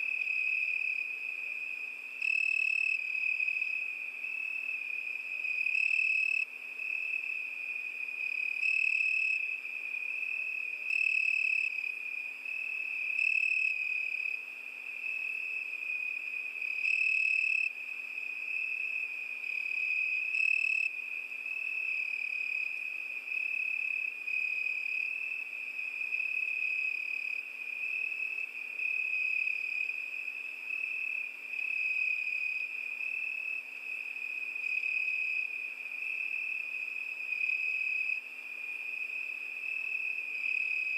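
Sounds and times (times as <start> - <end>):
crickets trilling: 0.0 - 40.9
loud cricket chirps: 0.0 - 40.9.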